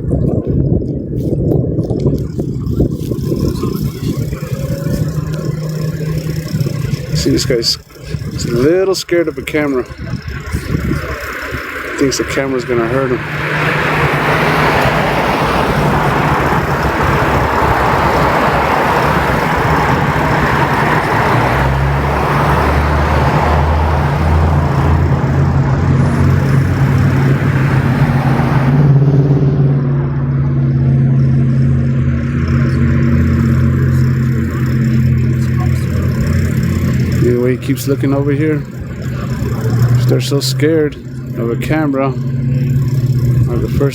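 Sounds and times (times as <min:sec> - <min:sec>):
road traffic noise: 0:00.0 - 0:43.9
vehicle engine idling: 0:00.0 - 0:43.9.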